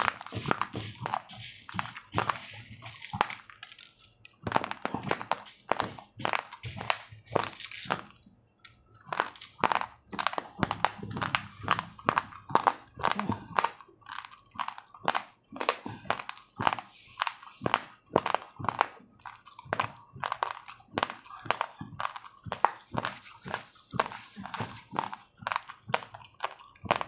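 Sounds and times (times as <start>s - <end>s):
chewing crunchy rice grains: 0.0s - 27.0s.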